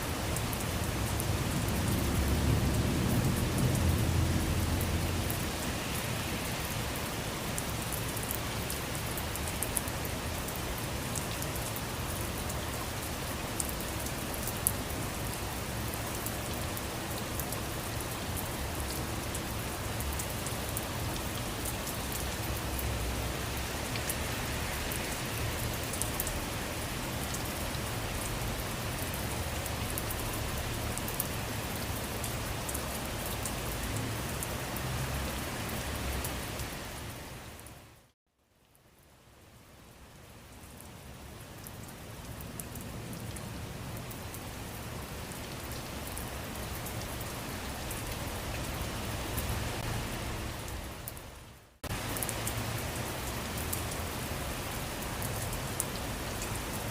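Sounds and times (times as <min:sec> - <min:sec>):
rain falling: 0:00.0 - 0:56.9
raindrops ticking on a surface: 0:00.0 - 0:56.9.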